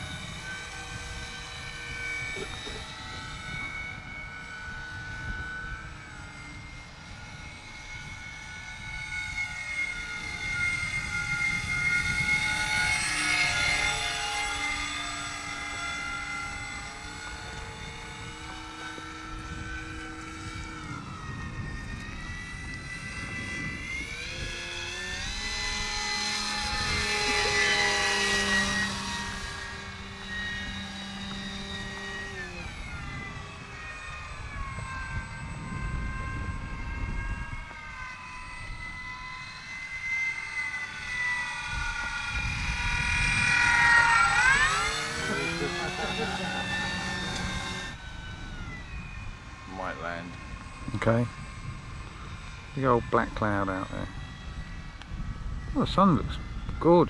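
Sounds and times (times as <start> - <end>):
model airplane engine buzzing: 0.0 - 57.0.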